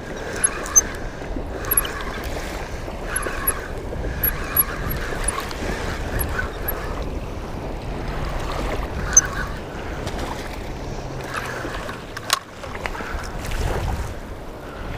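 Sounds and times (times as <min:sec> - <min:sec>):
small waves lapping: 0:00.0 - 0:14.9
wind rumbling on microphone: 0:00.0 - 0:14.9.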